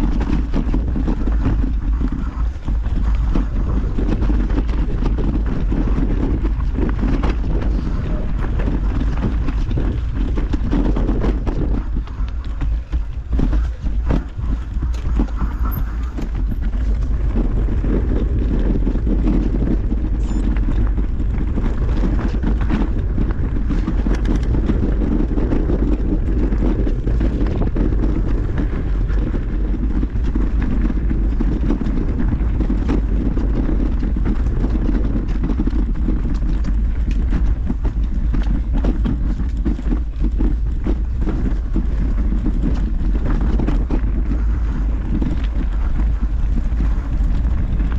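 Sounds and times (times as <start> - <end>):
bike knocks and rattles: 0.0 - 47.9
wind buffeting microphone: 0.0 - 47.9.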